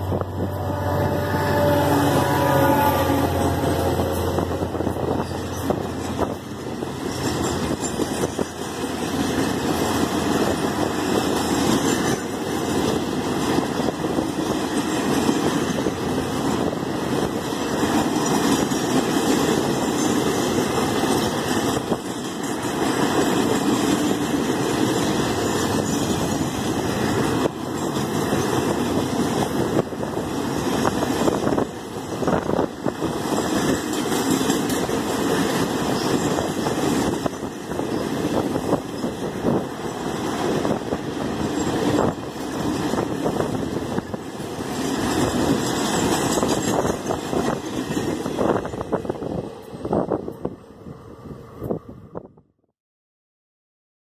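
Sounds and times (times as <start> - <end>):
steel wheels rumbling on rails: 0.0 - 52.4.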